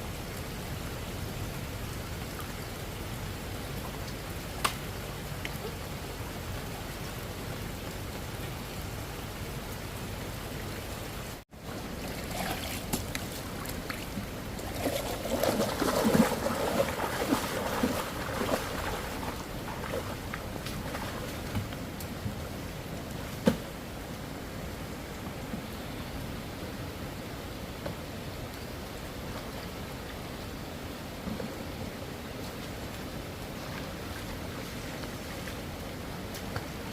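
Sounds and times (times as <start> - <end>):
water splashing and sloshing: 0.0 - 25.9, 27.7 - 36.9
hiss of running water: 0.0 - 36.9.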